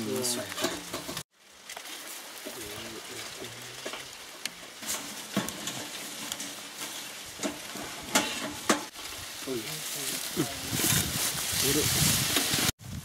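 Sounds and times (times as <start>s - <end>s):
crackly rustling handling noise: 0.0s - 12.8s.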